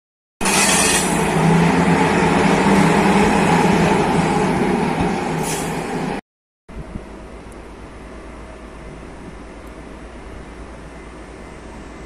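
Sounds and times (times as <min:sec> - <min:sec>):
electric locomotive hum: 0:00.4 - 0:12.0.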